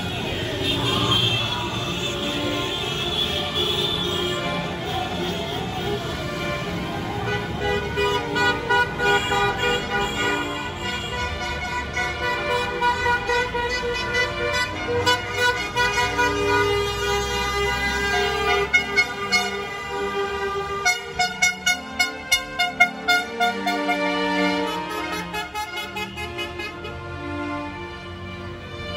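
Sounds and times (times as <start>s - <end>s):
car and scooter horns honking: 0.0s - 6.5s, 7.2s - 27.9s
passing cars and motorbikes: 0.0s - 28.9s.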